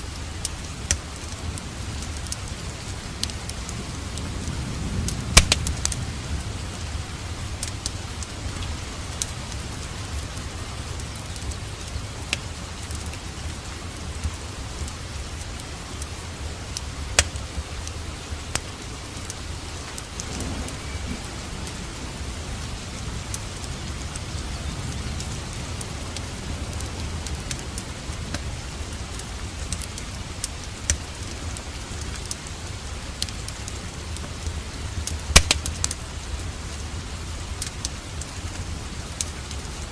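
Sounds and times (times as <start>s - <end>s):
fire crackling and popping: 0.0s - 39.9s
steady rain: 0.0s - 39.9s.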